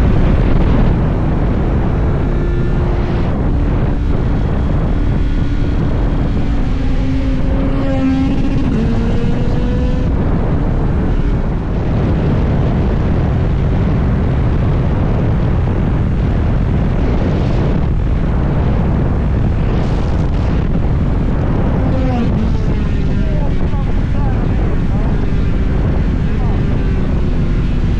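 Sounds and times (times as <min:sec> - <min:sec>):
motorcycle engine: 0:00.0 - 0:27.9
wind rush on microphone: 0:00.0 - 0:27.9.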